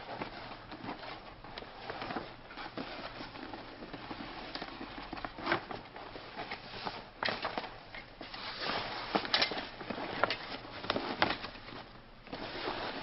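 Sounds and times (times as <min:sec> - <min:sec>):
nylon fabric rustling: 0:00.0 - 0:13.0.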